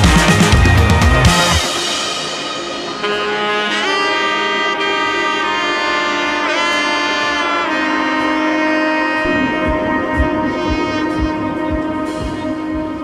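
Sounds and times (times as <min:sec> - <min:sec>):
music of long held notes: 0:00.0 - 0:13.0.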